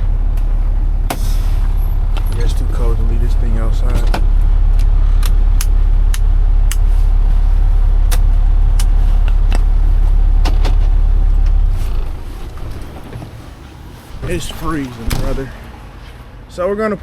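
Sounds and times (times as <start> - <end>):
diesel truck engine idling: 0.0 - 16.7.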